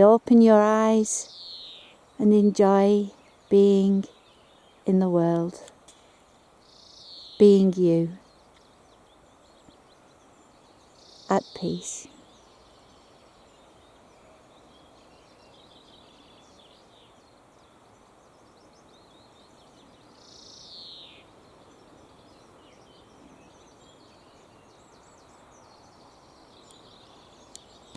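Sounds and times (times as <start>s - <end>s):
birds chirping and trilling: 0.0s - 27.9s.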